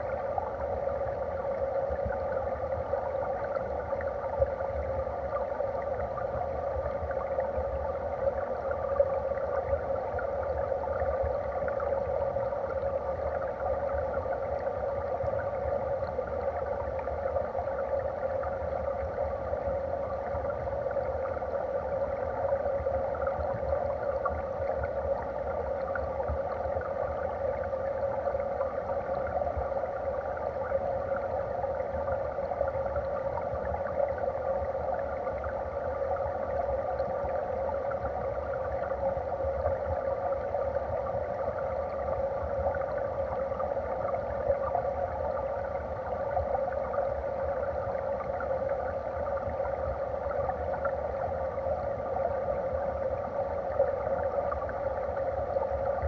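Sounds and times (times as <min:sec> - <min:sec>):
underwater stream rushing: 0:00.0 - 0:56.0.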